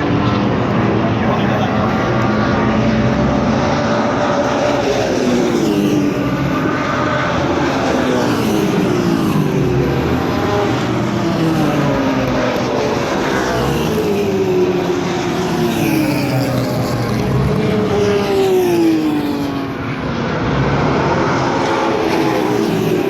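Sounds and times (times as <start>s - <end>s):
racing cars passing at full throttle: 0.0s - 23.0s.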